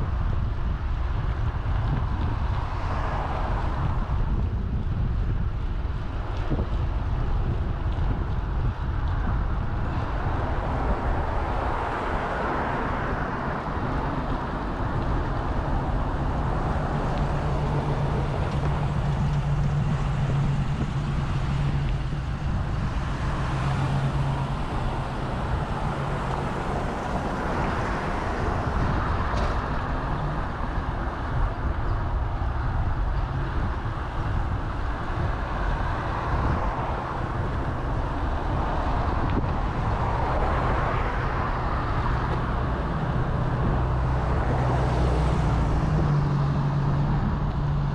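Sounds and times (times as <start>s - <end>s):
low engine hum: 0.0s - 47.9s
road traffic noise: 0.0s - 47.9s
wind rumbling on microphone: 0.0s - 47.9s.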